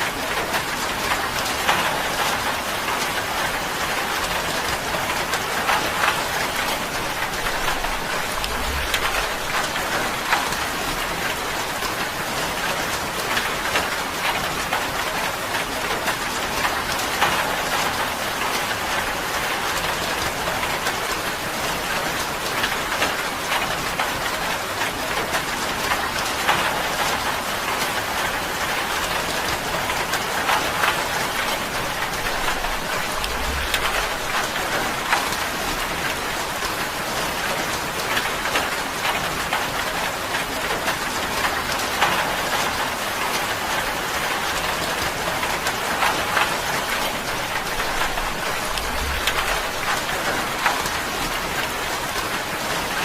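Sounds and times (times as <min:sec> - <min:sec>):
rain on a tin roof: 0:00.0 - 0:53.0.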